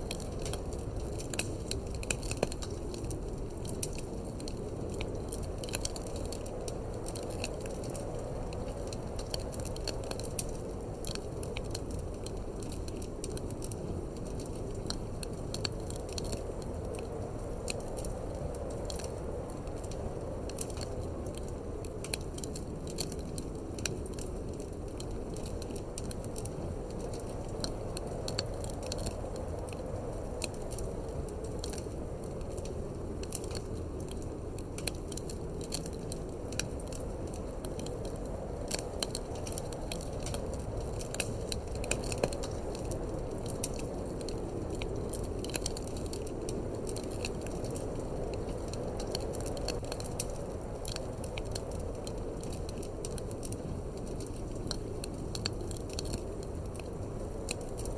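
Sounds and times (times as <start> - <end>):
low rumble of wind: 0.0 - 57.9
wood fire crackling: 0.0 - 57.9.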